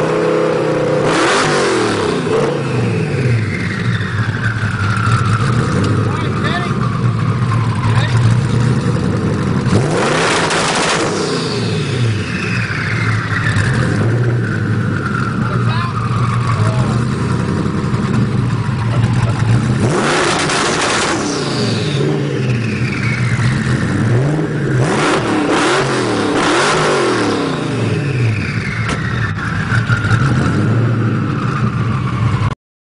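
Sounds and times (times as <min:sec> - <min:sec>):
car engine idling and revving: 0:00.0 - 0:32.6
high engine whine: 0:00.0 - 0:32.6
exhaust crackles: 0:01.0 - 0:32.5.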